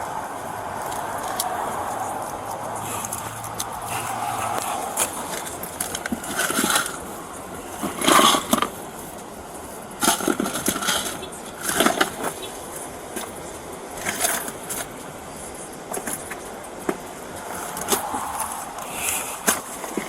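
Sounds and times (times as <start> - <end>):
rustling and scraping: 0.0 - 20.0
steady background hiss: 0.0 - 20.0.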